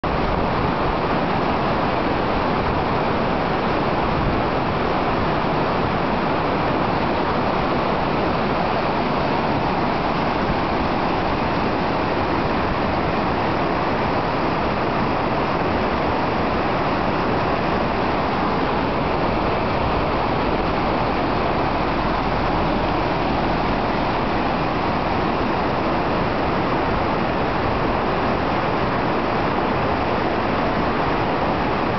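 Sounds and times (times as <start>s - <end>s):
whitewater rushing over rapids: 0.1s - 31.9s.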